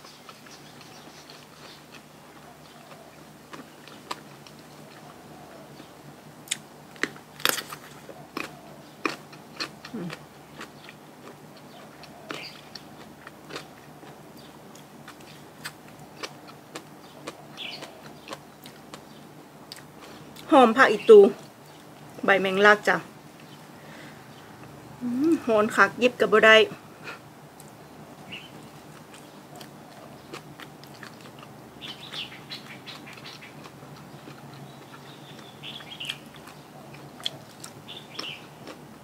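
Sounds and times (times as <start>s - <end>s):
person chewing with crunches: 0.0s - 20.5s, 27.6s - 39.0s.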